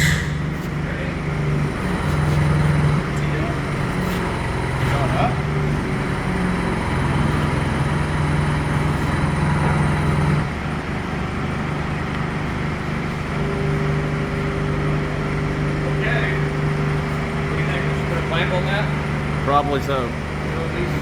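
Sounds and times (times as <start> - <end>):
heavy machine engine running: 0.0 - 21.0.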